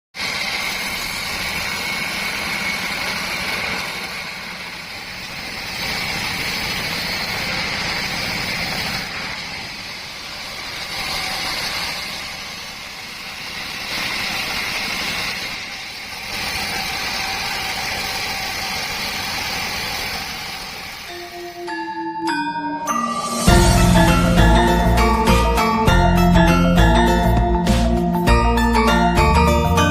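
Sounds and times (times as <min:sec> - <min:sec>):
sawmill saw running with whine: 0:00.2 - 0:29.9.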